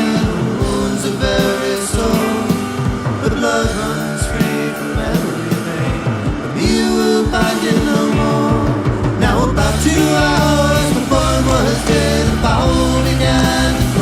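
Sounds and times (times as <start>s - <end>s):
steady drum beat: 0.0s - 14.0s
sustained guitar lines: 0.0s - 14.0s.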